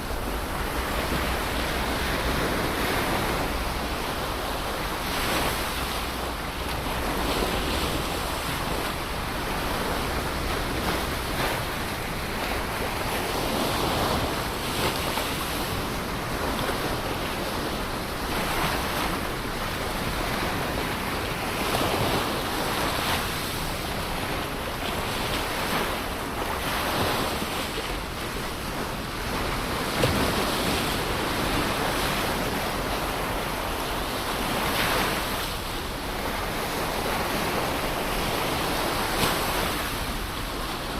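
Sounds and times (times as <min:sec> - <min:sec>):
ocean surf breaking on shore: 0:00.0 - 0:40.9.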